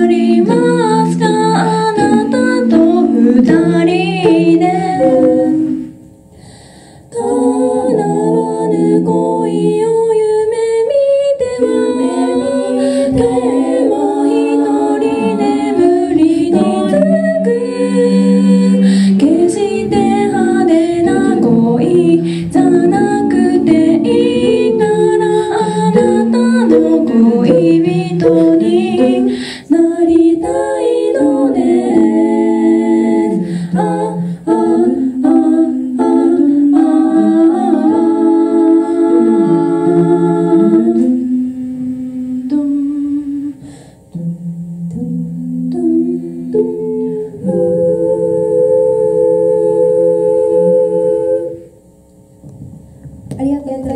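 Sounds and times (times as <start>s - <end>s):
women singing a cappella harmony: 0.0s - 52.0s.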